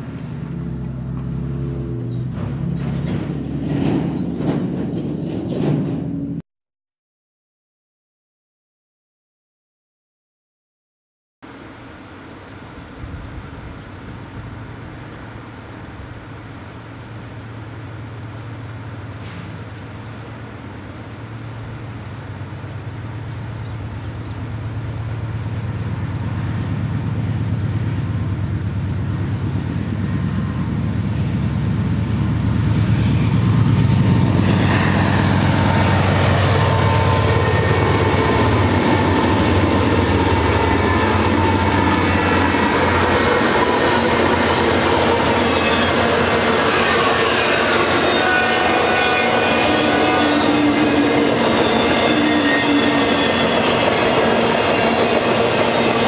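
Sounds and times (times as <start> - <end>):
diesel locomotive engine drone: 0.0 - 6.4, 11.4 - 56.0
train wheels clattering on rails: 0.0 - 6.4, 16.9 - 56.0.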